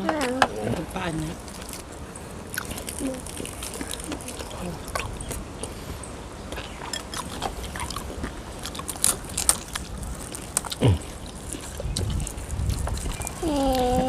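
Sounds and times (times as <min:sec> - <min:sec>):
crunchy chewing of fried food: 0:00.5 - 0:14.0.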